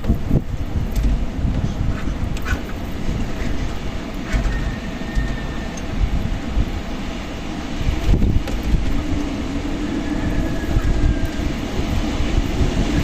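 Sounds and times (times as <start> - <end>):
strong gusty wind: 0.0 - 13.0
wind rumble on microphone: 0.0 - 13.0.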